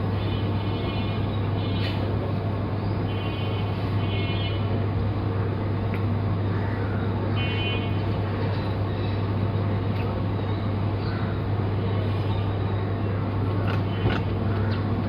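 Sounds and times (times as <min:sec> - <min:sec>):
urban low hum: 0:00.0 - 0:15.0.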